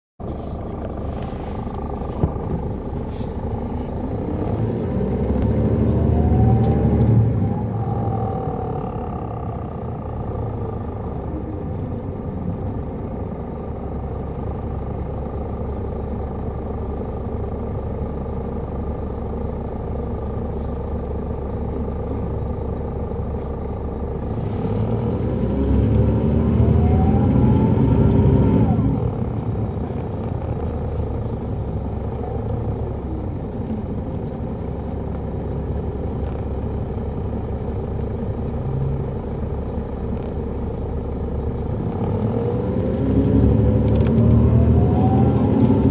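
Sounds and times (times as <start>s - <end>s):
bus diesel engine running: 0.2s - 45.9s.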